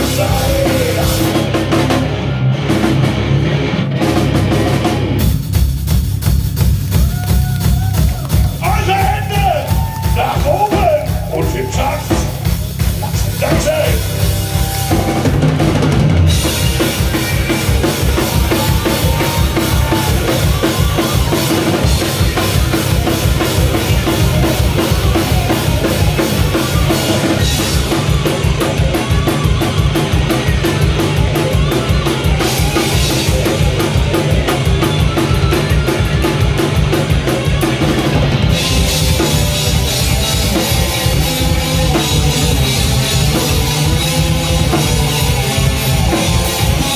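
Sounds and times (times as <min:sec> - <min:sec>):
fast bass drum beat: 0:00.0 - 0:03.3, 0:03.9 - 0:46.9
live heavy metal band: 0:00.0 - 0:46.9.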